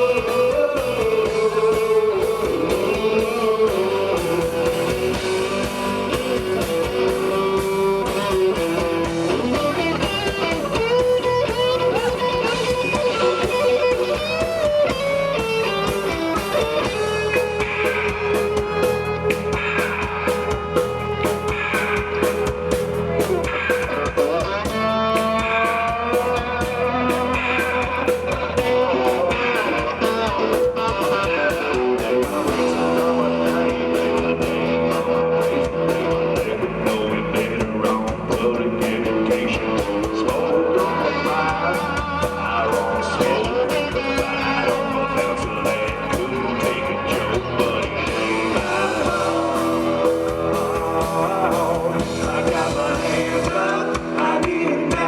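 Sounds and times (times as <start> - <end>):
lead guitar bending notes: 0.0 - 55.0
steady drum beat: 0.0 - 55.0.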